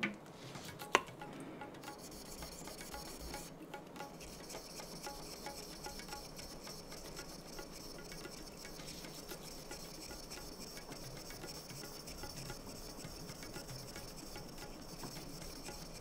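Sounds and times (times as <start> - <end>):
knife rubbing on wet whetstone: 1.8 - 16.0.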